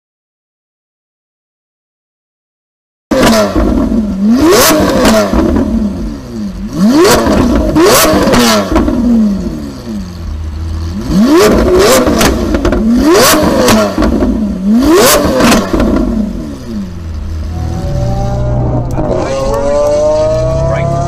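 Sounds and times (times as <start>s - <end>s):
car engine revving: 3.1s - 21.0s
exhaust cracks: 3.2s - 20.8s.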